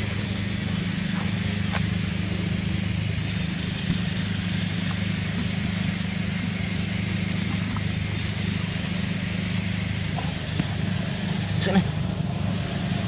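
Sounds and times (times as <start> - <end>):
constant hiss: 0.0 - 13.0
low engine hum: 0.0 - 13.0.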